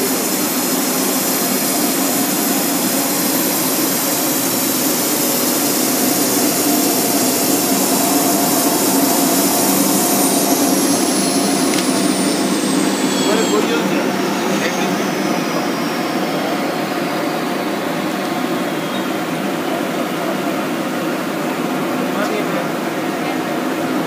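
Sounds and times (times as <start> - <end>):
glass washing machine blower running: 0.0 - 24.0.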